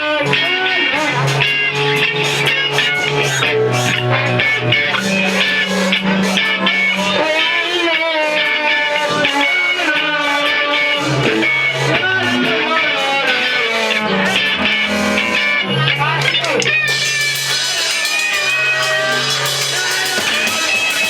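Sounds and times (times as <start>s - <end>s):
electric guitar: 0.0s - 21.0s
live band playing: 0.3s - 21.0s.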